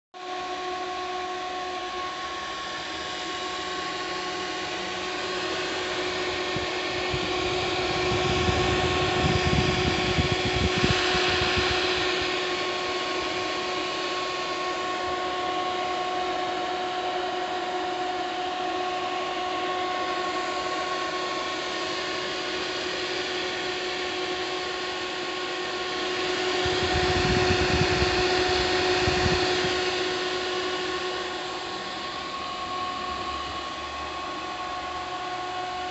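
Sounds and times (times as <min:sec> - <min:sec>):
cooling fan whining: 0:00.2 - 0:35.9.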